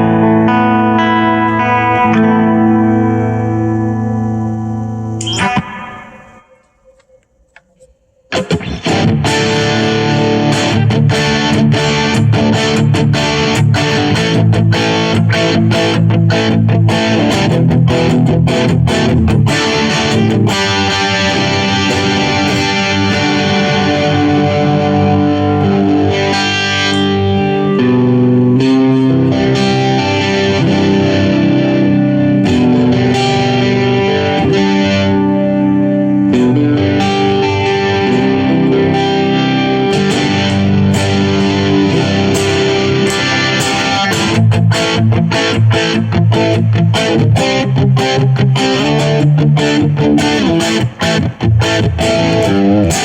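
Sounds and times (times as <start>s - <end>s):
distorted electric guitar: 0.0s - 53.0s.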